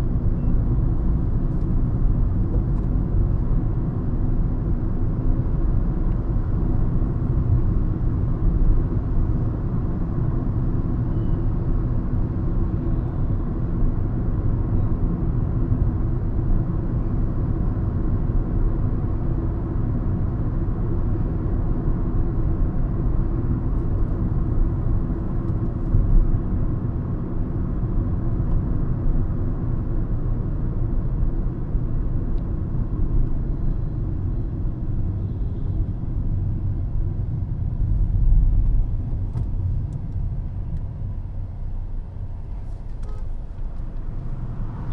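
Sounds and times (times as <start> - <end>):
car engine rumble: 0.0 - 44.9
road noise: 0.0 - 44.9.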